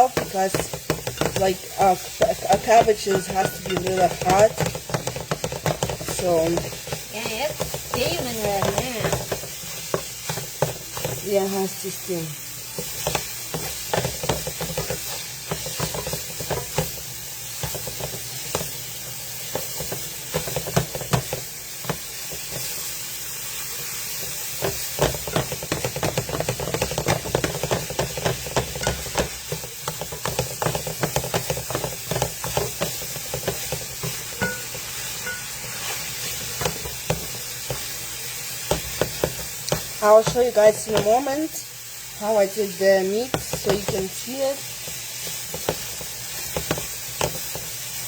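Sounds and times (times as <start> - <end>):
spatula scraping a pan: 0.0 - 12.0, 12.7 - 22.9, 23.5 - 41.6
food sizzling in a frying pan: 0.0 - 48.0.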